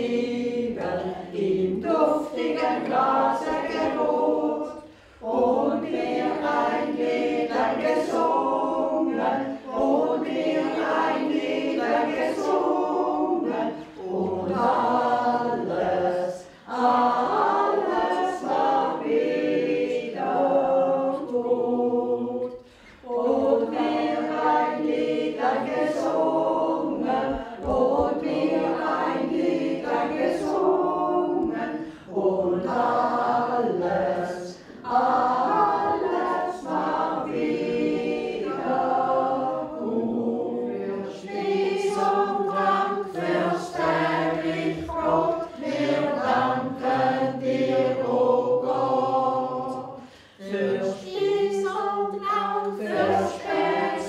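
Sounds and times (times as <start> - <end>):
elderly voices singing unaccompanied: 0.0 - 54.0.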